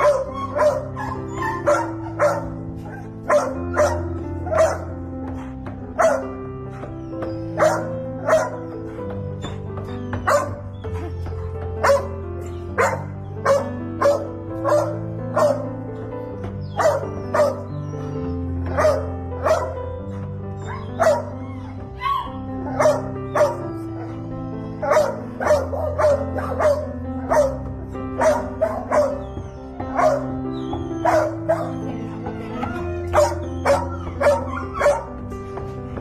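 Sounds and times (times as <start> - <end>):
dog barking: 0.0 - 6.8, 7.5 - 9.0, 10.2 - 11.1, 11.8 - 12.2, 12.8 - 15.8, 16.6 - 17.7, 18.7 - 21.4, 22.0 - 32.0, 32.6 - 35.3
music of held chords: 0.0 - 36.0.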